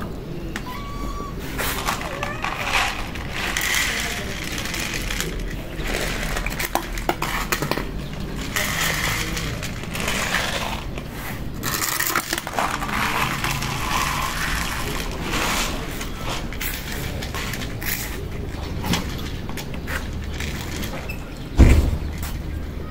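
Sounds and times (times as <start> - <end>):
kibble rattling into plastic plates: 0.0 - 22.6.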